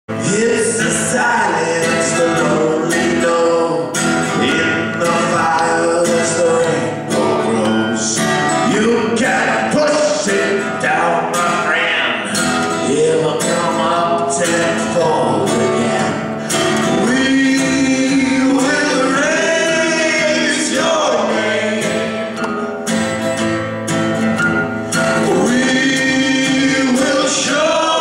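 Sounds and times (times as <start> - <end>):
people singing: 0.1 - 22.7, 25.0 - 28.0
acoustic guitar strumming: 0.1 - 28.0.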